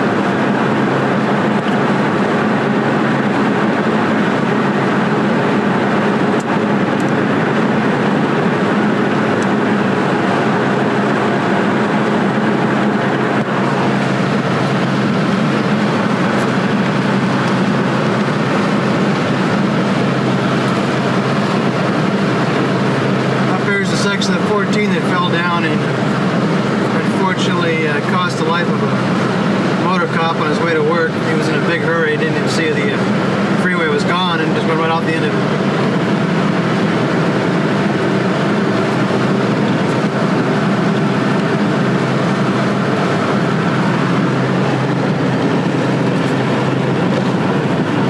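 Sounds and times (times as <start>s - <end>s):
car engine drone: 0.0s - 48.0s.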